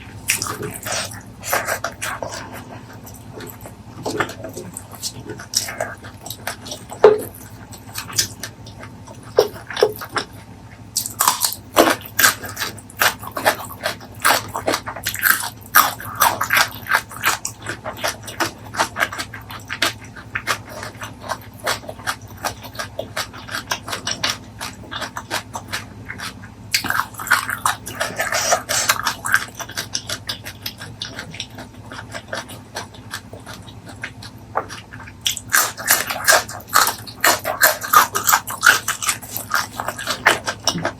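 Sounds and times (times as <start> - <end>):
chewing and lip smacking: 0.0 - 40.9.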